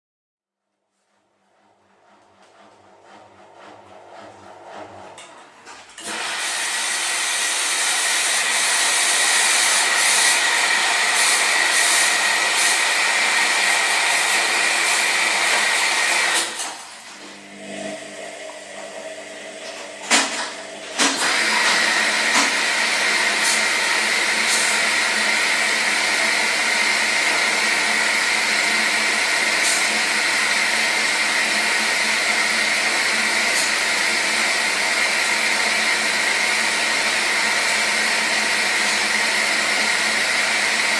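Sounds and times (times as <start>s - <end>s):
washing machine hum: 0.7s - 40.9s
washing machine rushing: 1.1s - 40.9s.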